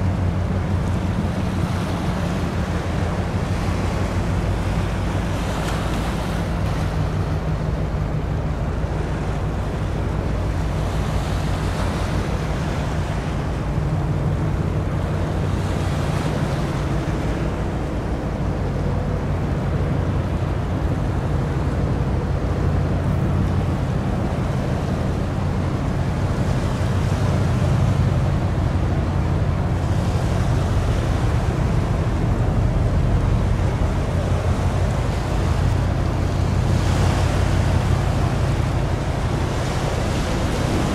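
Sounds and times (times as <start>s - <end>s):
rush of water: 0.0s - 40.9s
ship engine hum: 0.0s - 40.9s
wind on microphone: 0.0s - 40.9s.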